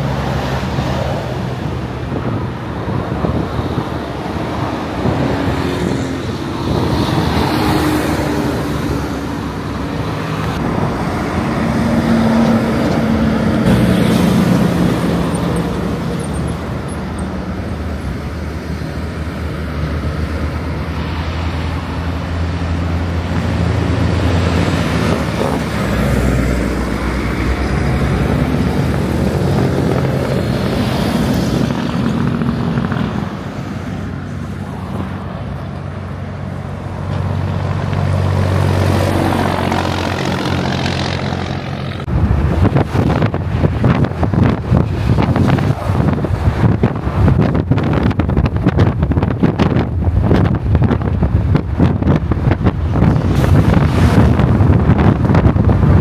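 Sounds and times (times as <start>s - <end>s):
heavy trucks passing: 0.0s - 56.0s
lighter vehicles passing: 0.0s - 56.0s
wind buffeting microphone: 0.0s - 56.0s.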